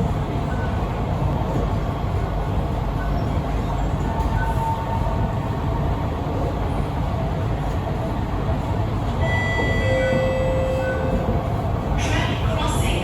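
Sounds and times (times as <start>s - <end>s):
train wheels and motors rumbling: 0.0s - 13.0s.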